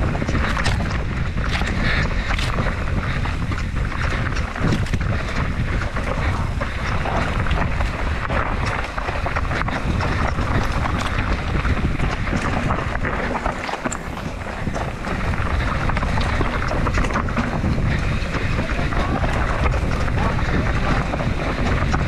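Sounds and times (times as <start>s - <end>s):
bike rattles and clicks: 0.0s - 22.0s
tyres rumbling on trail: 0.0s - 22.0s
wind buffeting microphone: 0.0s - 22.0s.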